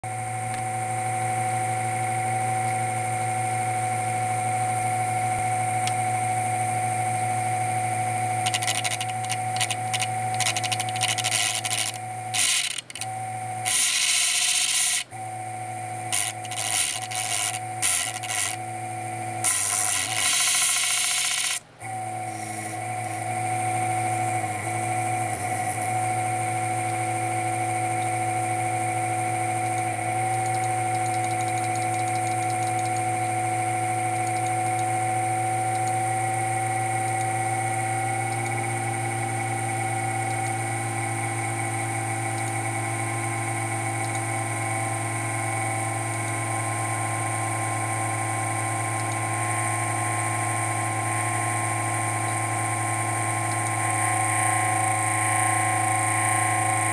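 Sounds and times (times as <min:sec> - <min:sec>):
blower fan whine: 0:00.0 - 0:56.9.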